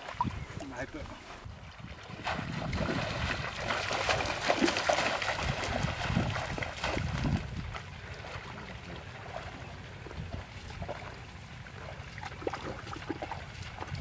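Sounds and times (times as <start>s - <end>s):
feet splashing in stream: 2.1s - 14.0s.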